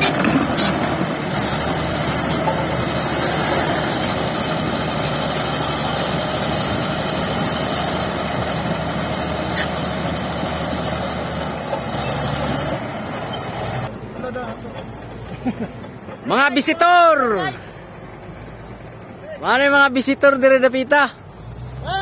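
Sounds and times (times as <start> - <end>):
bulldozer diesel engine running: 0.0 - 21.8.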